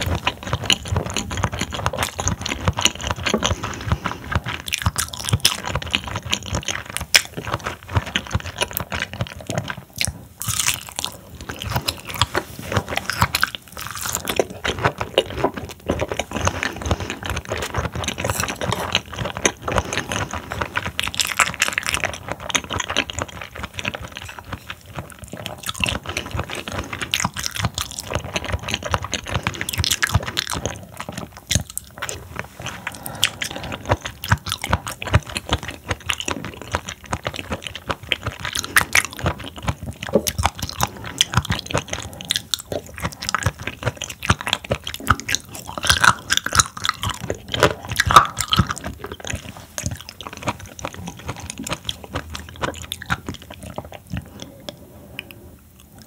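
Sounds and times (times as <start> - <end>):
chewing crunching: 0.0 - 56.0
wet mouth clicks: 0.0 - 56.0.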